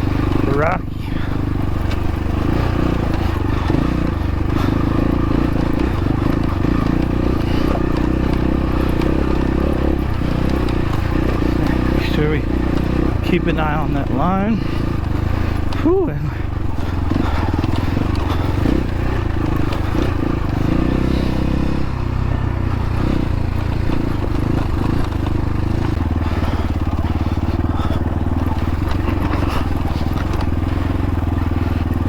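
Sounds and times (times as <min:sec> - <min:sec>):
dirt bike engine running: 0:00.0 - 0:32.0
tyres crunching over rocks: 0:00.2 - 0:32.0.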